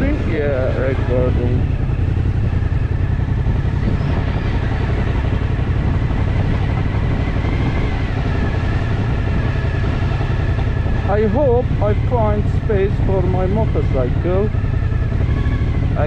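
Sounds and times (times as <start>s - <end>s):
motorcycle engine running low: 0.0s - 16.0s.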